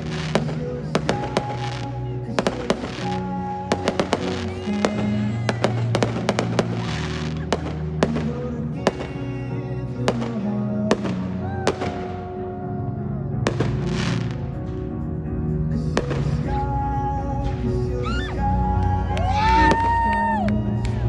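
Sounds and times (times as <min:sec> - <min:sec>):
fireworks banging and popping: 0:00.0 - 0:12.4, 0:13.4 - 0:18.2
music with long held notes: 0:00.0 - 0:21.0.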